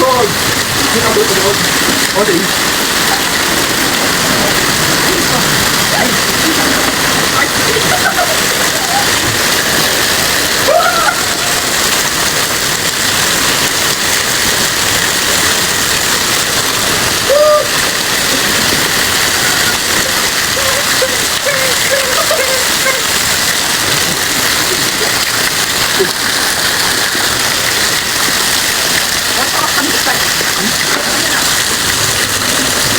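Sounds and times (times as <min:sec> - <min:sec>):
heavy rain falling: 0:00.0 - 0:32.9.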